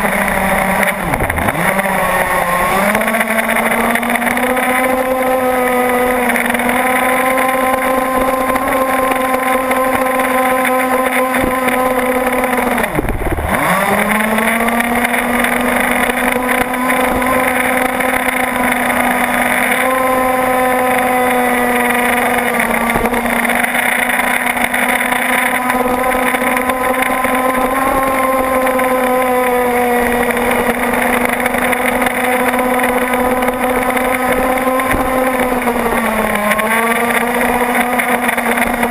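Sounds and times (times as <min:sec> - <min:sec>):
two-stroke boat engine racing: 0:00.0 - 0:38.9.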